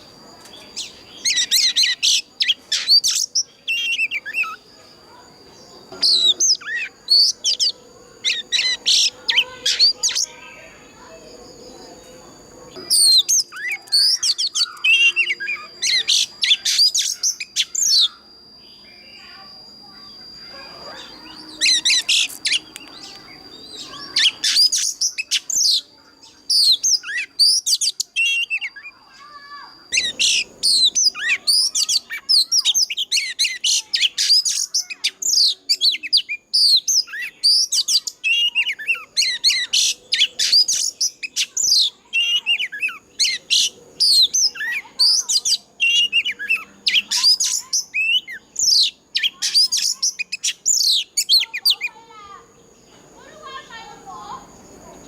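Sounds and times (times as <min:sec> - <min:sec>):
bird singing whistled song: 0:00.0 - 0:52.1.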